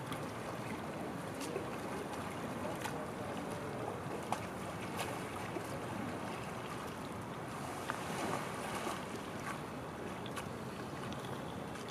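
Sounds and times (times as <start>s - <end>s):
moving water: 0.0s - 11.9s
paddle splashes: 0.0s - 11.9s.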